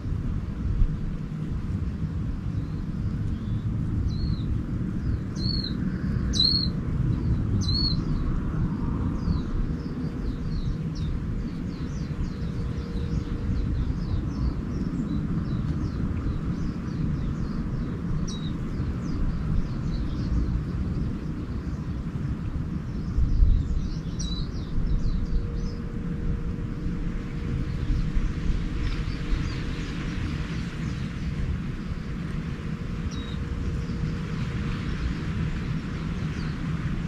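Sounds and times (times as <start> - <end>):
steady low rumble: 0.0 - 37.0
birds chirping and twittering: 2.0 - 37.0.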